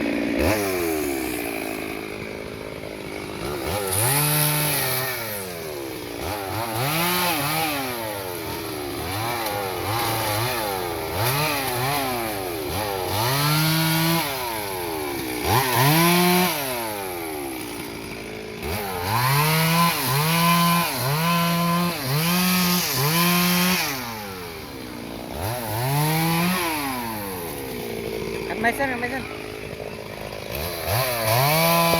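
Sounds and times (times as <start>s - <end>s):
chainsaw revving: 0.0s - 31.9s.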